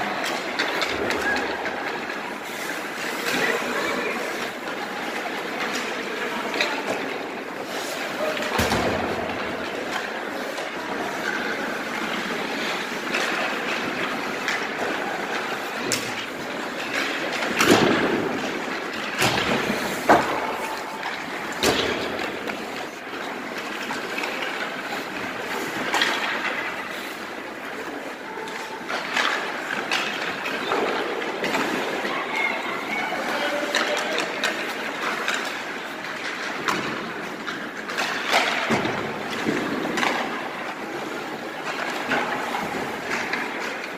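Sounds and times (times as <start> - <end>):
sticks and pucks knocking: 0.0 - 32.1, 32.9 - 43.9
skate blades scraping on ice: 0.0 - 43.9.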